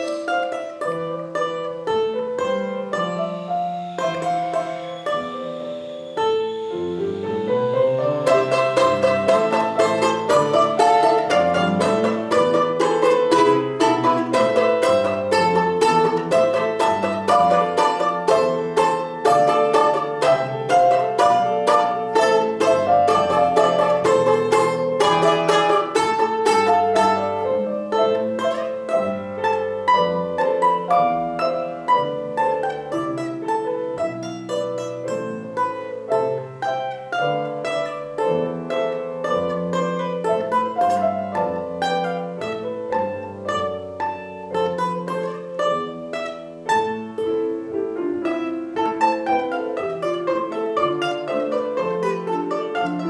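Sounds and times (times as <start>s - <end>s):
plucked string instrument music: 0.0s - 53.0s.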